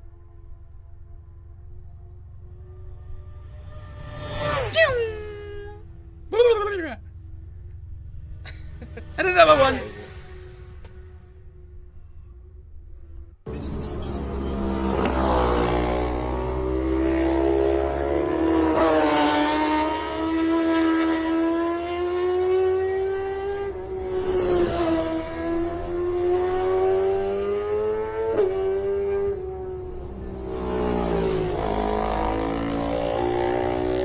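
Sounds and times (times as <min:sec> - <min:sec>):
racing motorcycle engine high revs: 0:02.0 - 0:34.0.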